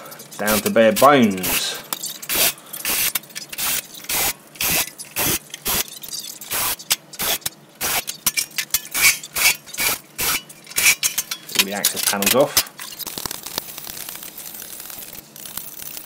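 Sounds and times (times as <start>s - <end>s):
metal clinks and scrapes: 0.0s - 13.3s.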